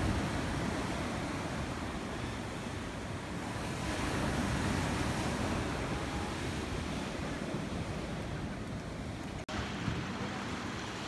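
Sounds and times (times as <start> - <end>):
ocean surf washing ashore: 0.0 - 11.0
wind rumbling on microphone: 0.0 - 11.0.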